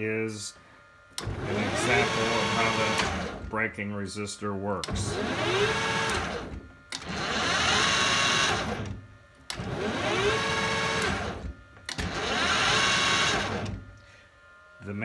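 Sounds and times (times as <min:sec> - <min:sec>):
lathe motor whine: 0:00.0 - 0:15.0.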